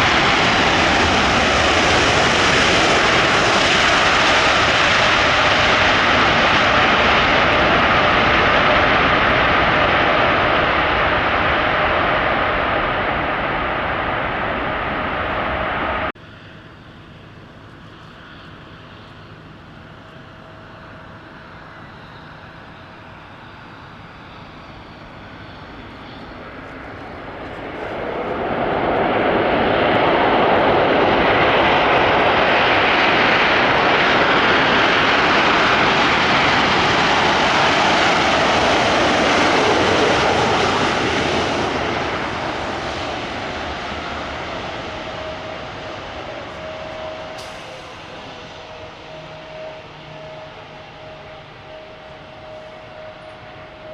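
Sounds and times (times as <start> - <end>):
jet airliner engines roaring: 0.0 - 53.9.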